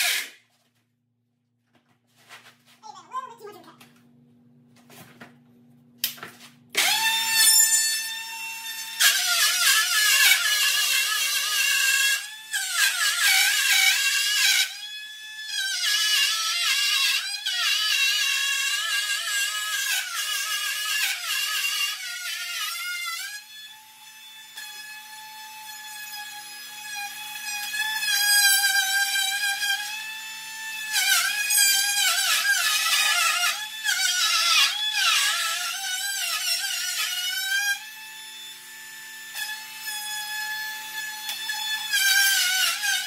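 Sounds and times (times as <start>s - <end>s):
router cutting plywood: 6.8s - 43.0s.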